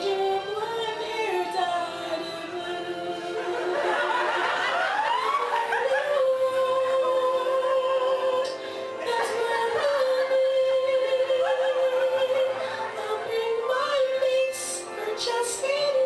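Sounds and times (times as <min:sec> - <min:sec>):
person singing song: 0:00.0 - 0:16.0.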